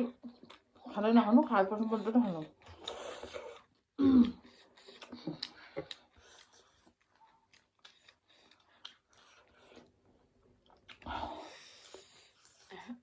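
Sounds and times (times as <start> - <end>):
person chewing noodles: 0.2 - 0.9, 2.4 - 12.9.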